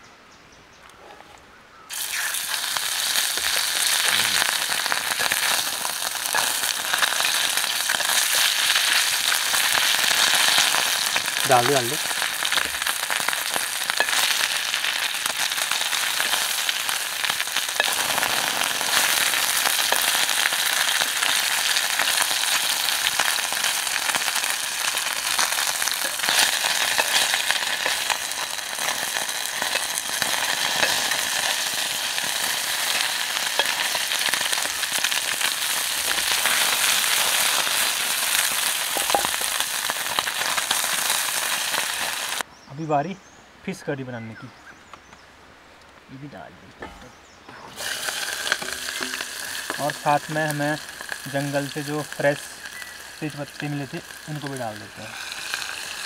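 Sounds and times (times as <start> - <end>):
fish frying in hot oil: 1.9 - 42.4, 47.7 - 56.0.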